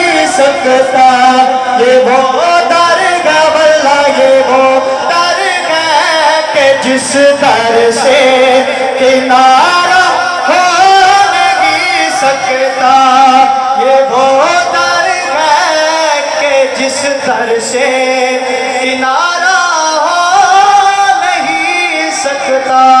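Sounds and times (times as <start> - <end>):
man singing into microphone: 0.0 - 23.0.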